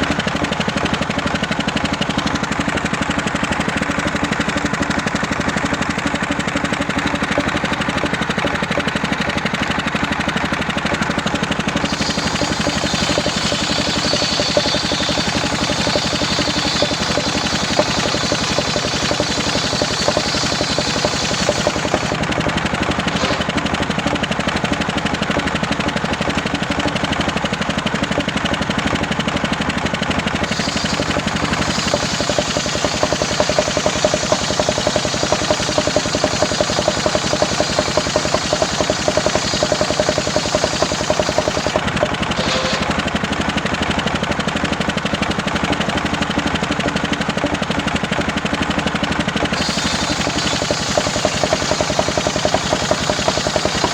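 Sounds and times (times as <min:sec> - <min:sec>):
engine-driven circular saw running: 0:00.0 - 0:53.9.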